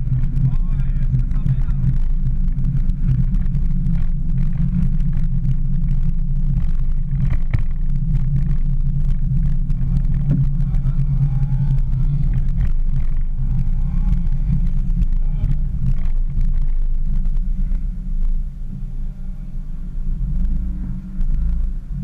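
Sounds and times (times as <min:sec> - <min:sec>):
car engine under load: 0:00.0 - 0:22.0
faint rising whines: 0:00.0 - 0:22.0
road noise: 0:00.0 - 0:22.0.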